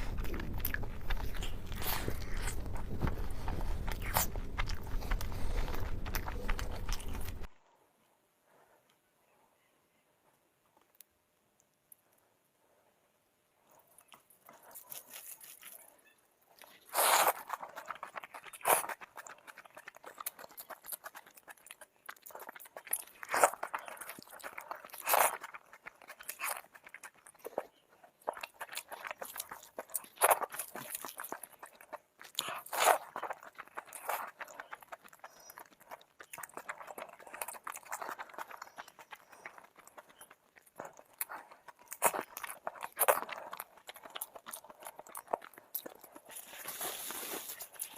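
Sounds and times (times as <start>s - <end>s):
crunchy bites: 0.0s - 7.5s, 14.0s - 47.9s
person chewing food: 0.0s - 7.6s, 13.6s - 47.9s.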